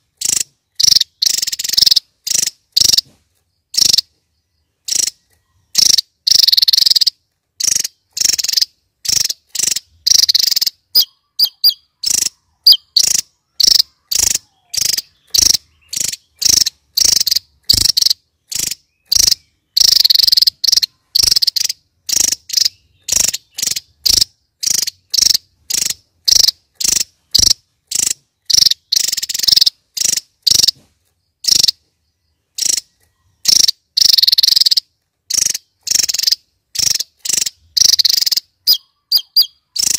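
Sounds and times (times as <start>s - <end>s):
bird singing buzzy bursts: 0.0s - 39.9s.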